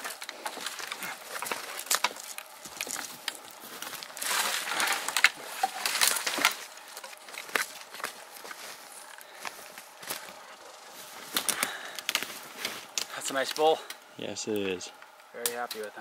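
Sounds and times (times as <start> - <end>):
branches crackling and rustling: 0.0 - 16.0.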